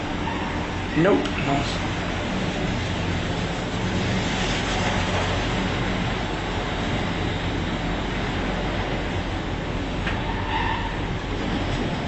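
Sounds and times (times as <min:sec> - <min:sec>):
lift running rumble with hum: 0:00.0 - 0:12.0.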